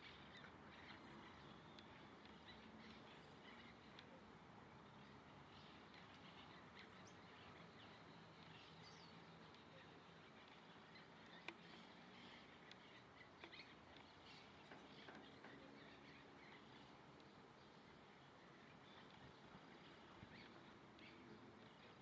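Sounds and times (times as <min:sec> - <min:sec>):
low background hiss: 0:00.0 - 0:22.0.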